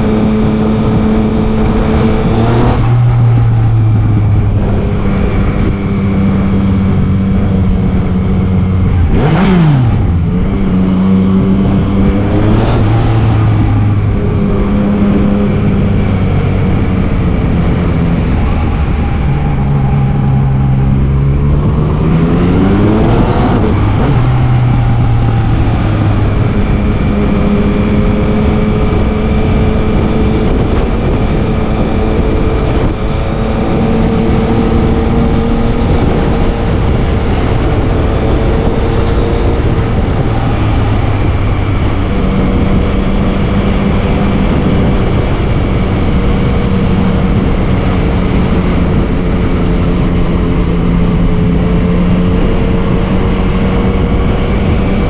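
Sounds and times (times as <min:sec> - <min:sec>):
motorcycle engine revving: 0:00.0 - 0:55.0
road and wind noise: 0:00.0 - 0:55.0.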